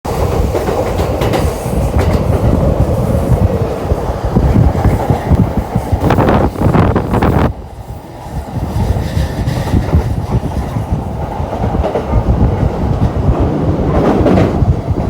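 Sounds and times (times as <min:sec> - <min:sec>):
train clatter: 0:00.1 - 0:07.5, 0:08.2 - 0:15.0
train wheels rumbling on rails: 0:00.1 - 0:15.0.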